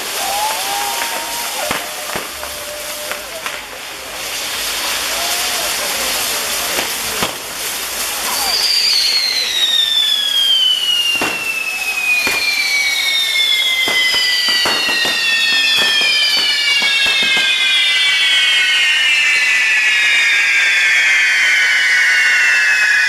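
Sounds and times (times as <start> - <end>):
falling firework whistles: 0.0 - 23.0
hiss of firework fountains: 0.0 - 23.0
sharp firework cracks: 0.0 - 23.0.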